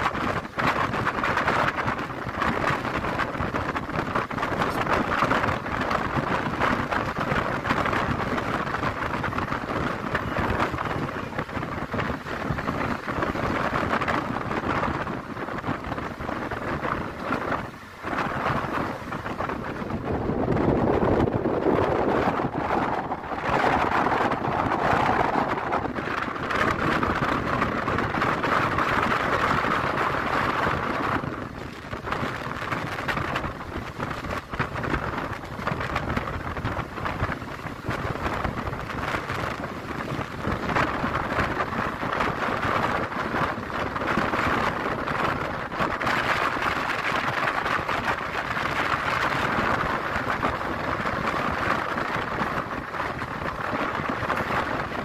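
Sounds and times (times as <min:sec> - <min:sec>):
train wheels running on rails: 0:00.0 - 0:55.0
wind on microphone: 0:00.0 - 0:55.0
wind rushing: 0:00.0 - 0:55.0.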